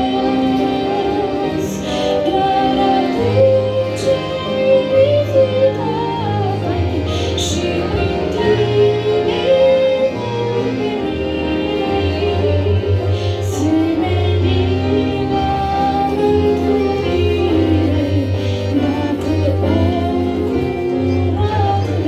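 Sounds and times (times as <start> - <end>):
instrumental accompaniment: 0.0 - 22.0
woman singing into a microphone: 0.0 - 22.0.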